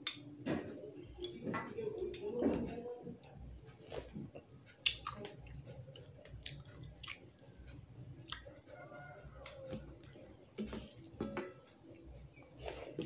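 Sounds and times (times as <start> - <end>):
person chewing food: 2.0 - 13.0.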